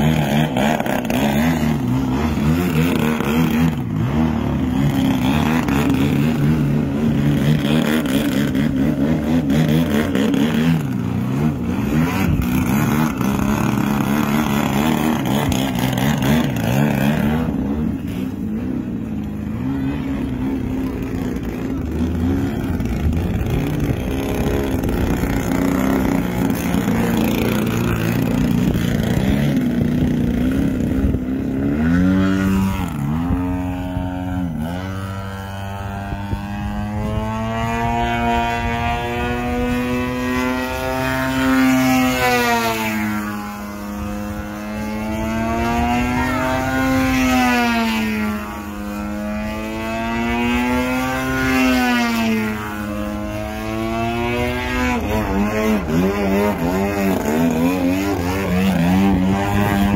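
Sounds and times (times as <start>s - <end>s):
model plane engine with rising and falling pitch: 0.0s - 59.9s.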